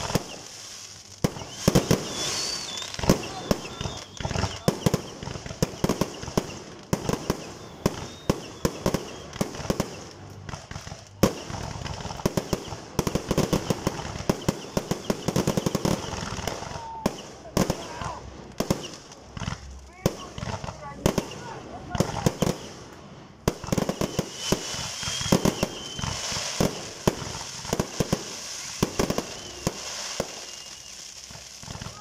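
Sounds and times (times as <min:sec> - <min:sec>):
fireworks bangs: 0:00.0 - 0:32.0
steady hiss: 0:00.0 - 0:32.0.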